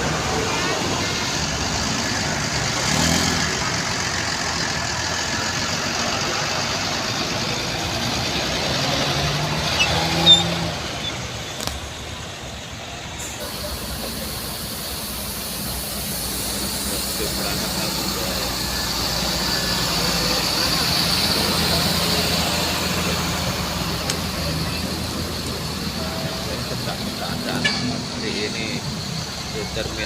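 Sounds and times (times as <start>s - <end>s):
bus engines idling: 0.0s - 30.0s.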